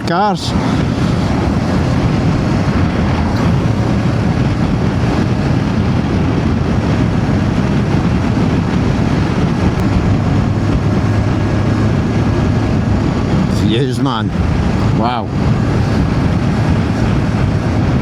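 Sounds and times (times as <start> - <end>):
motorcycle engine humming: 0.0 - 18.0
road and wind noise: 0.0 - 18.0.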